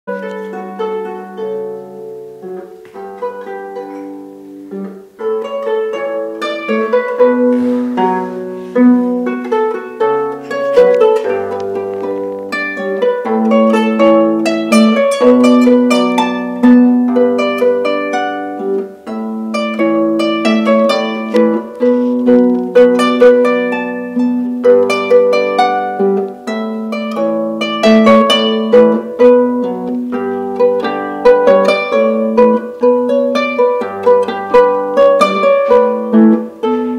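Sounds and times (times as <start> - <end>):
harp melody plucked: 0.1 - 36.9.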